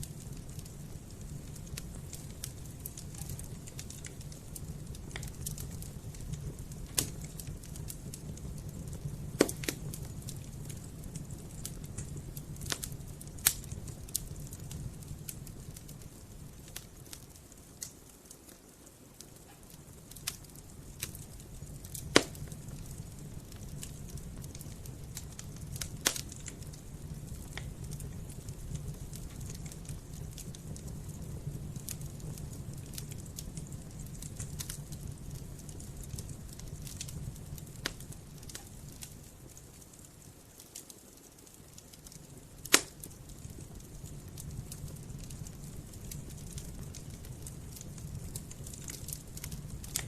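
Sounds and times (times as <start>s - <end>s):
burning wood popping: 0.0s - 50.0s
campfire crackling: 0.0s - 50.0s.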